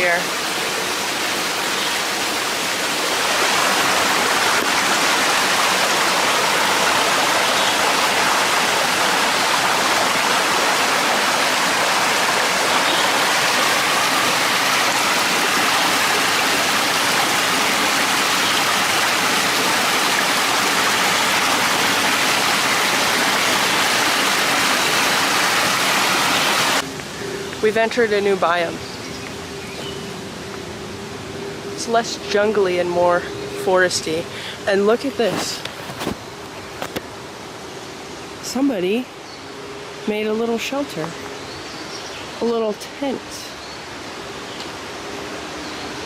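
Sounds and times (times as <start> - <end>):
small stream flowing: 0.0 - 46.0.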